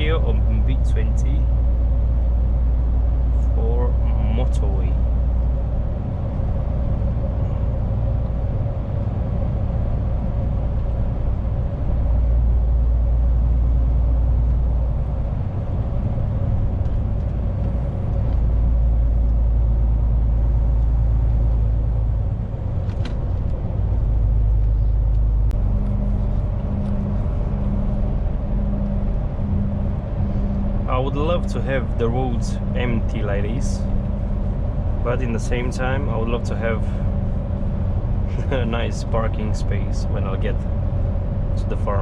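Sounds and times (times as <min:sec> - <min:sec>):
road noise: 0:00.0 - 0:42.0
soft pulsing low tone: 0:00.0 - 0:42.0
truck diesel engine rumble: 0:00.0 - 0:42.0.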